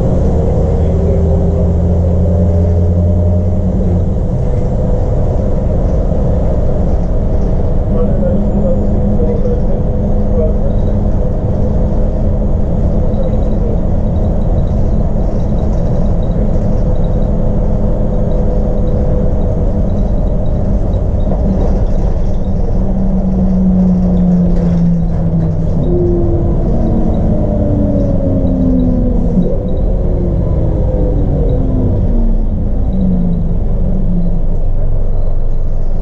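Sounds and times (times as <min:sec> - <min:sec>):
bus diesel engine running: 0:00.0 - 0:36.0
tyre road rumble: 0:00.0 - 0:36.0.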